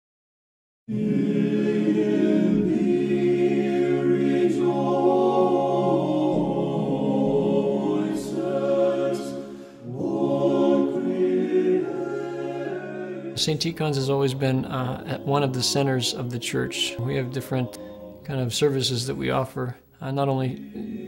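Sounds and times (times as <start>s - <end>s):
a cappella choir chanting: 0.9s - 19.4s, 20.0s - 21.0s.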